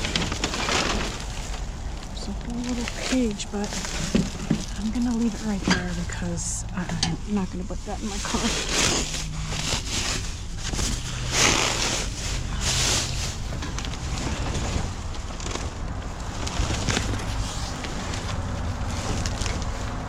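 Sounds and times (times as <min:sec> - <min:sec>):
road and wind noise: 0:00.0 - 0:20.0
car engine hum: 0:01.2 - 0:20.0.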